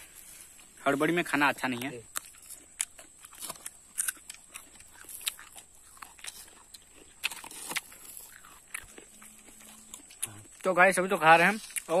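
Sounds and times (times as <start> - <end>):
crisp chewing crunches: 0.0 - 12.0.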